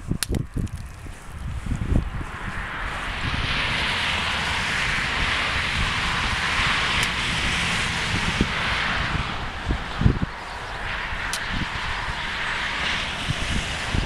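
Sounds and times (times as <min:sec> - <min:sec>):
wind rumbling on microphone: 0:00.0 - 0:14.0
vehicle tyre hiss passing: 0:01.2 - 0:14.0.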